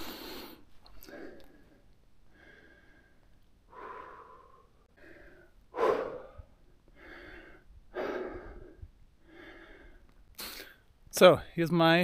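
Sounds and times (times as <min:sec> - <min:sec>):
person breathing: 0:00.0 - 0:10.9.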